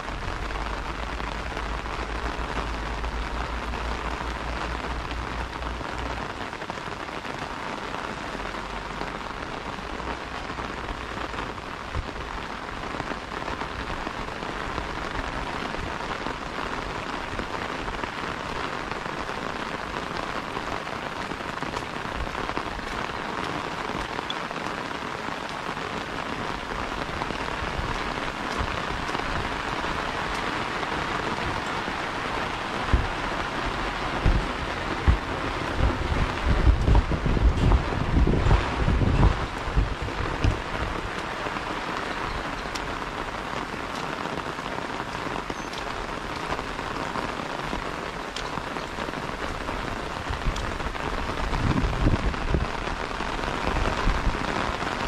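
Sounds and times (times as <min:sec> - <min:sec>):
rain falling on grass: 0:00.0 - 0:55.0
rain pattering on an umbrella: 0:00.0 - 0:55.0.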